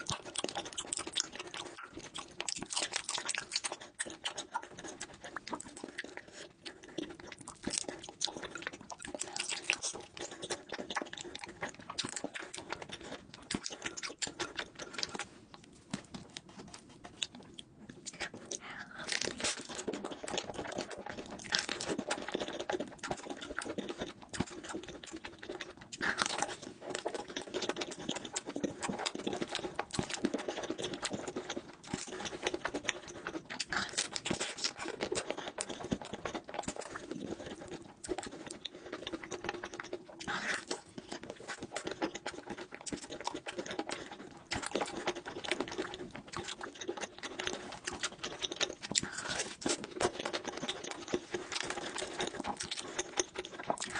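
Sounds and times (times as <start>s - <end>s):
wet chewing and mouth smacking: 0.0s - 53.9s.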